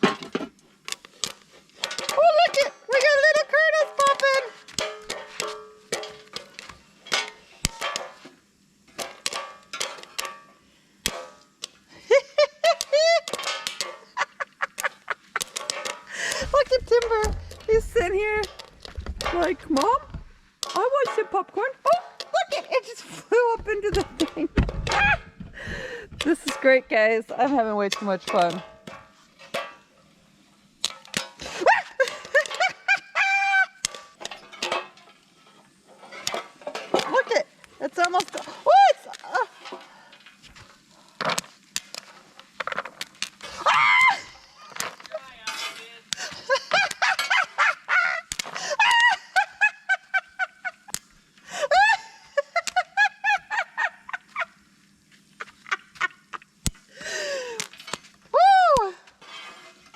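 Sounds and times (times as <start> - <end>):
popcorn popping under a cover: 0.0 - 53.5, 54.1 - 59.2.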